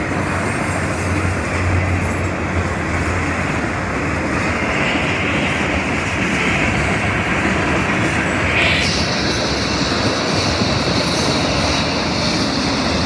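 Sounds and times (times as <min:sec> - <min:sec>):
freight train cars rolling past: 0:00.0 - 0:13.0.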